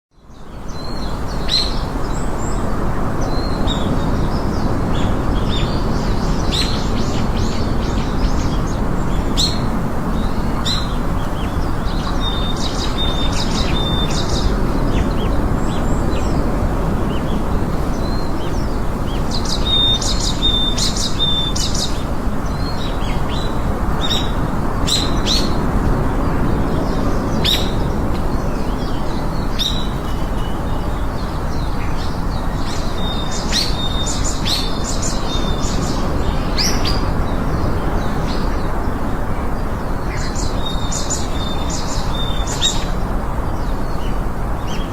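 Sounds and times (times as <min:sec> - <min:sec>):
rushing background noise: 0:00.2 - 0:44.9
birds chirping: 0:00.3 - 0:44.9.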